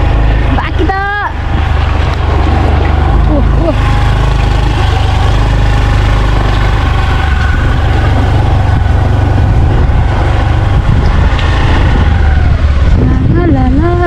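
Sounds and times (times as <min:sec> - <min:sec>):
motorbike engine droning: 0:00.0 - 0:14.0.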